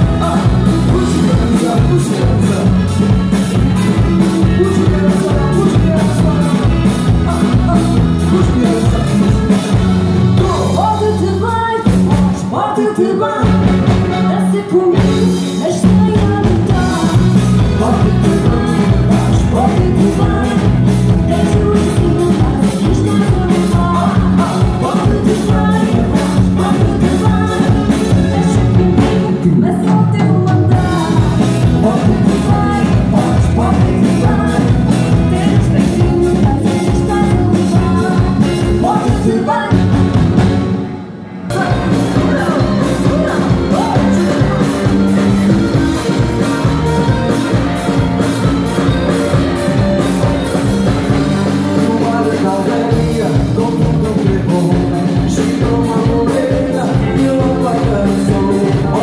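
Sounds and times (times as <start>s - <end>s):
person singing lead vocal: 0.0s - 40.1s, 41.4s - 59.0s
drums: 0.0s - 59.0s
guitar: 0.0s - 59.0s
keyboard: 0.0s - 59.0s.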